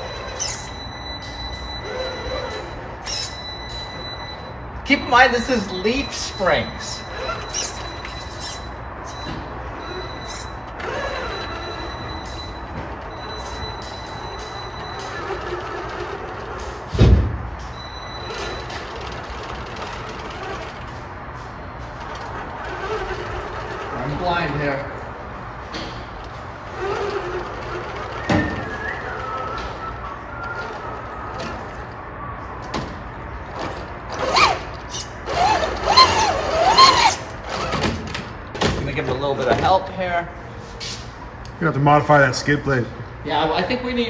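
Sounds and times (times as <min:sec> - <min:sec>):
electric motor and gears whirring: 0:00.0 - 0:04.5, 0:05.3 - 0:25.1, 0:25.7 - 0:38.2.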